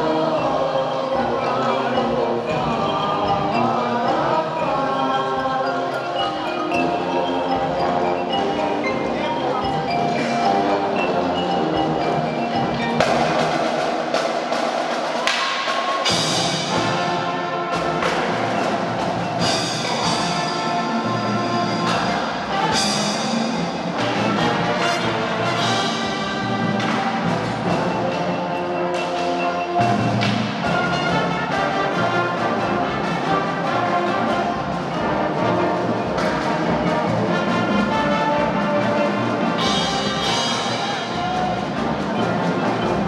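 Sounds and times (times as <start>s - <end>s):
brass instruments playing: 0.0s - 43.0s
marching snare and tenor drums: 0.0s - 43.0s
marimba: 0.0s - 43.0s.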